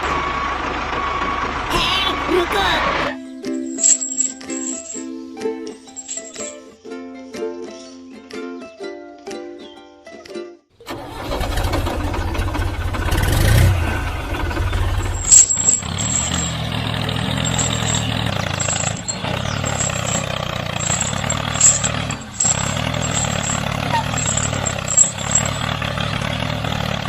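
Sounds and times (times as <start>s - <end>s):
tractor engine running: 0.0s - 6.5s, 10.8s - 27.0s.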